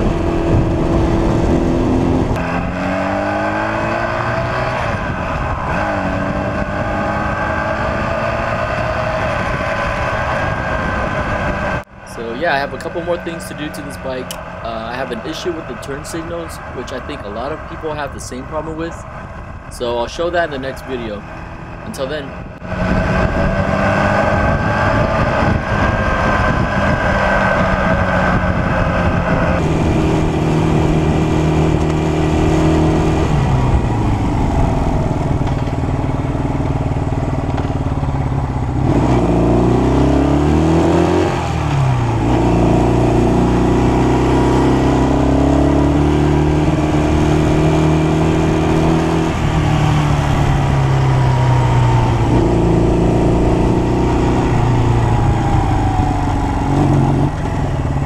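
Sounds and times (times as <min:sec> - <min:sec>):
motorcycle engine running: 0:00.0 - 0:17.8, 0:21.1 - 0:40.6, 0:41.5 - 0:58.0.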